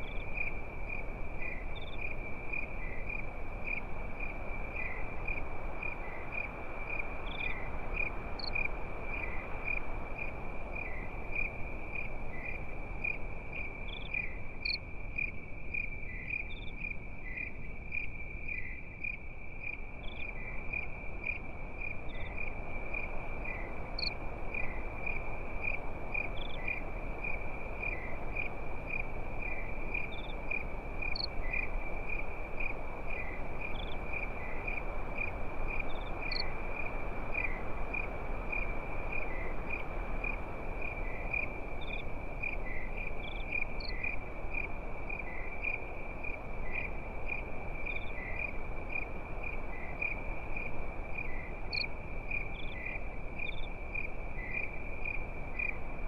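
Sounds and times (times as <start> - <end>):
short high insect calls: 0.0 - 55.8
crickets chirping: 0.0 - 56.0.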